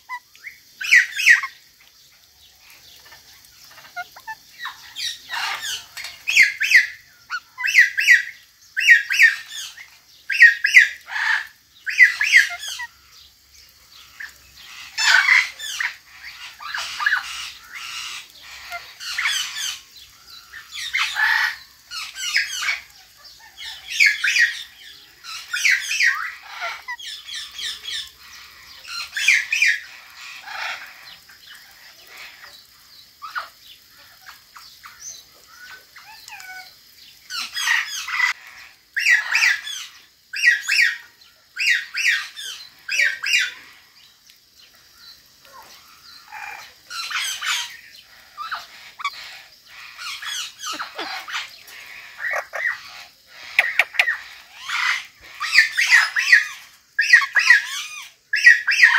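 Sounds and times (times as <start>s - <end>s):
parrots squawking and chattering: 0.0s - 1.9s, 2.6s - 13.1s, 13.9s - 44.1s, 44.7s - 58.9s.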